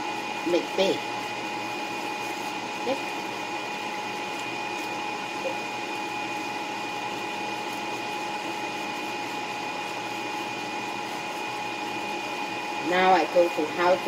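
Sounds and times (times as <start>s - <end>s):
motor or fan humming: 0.0s - 14.0s.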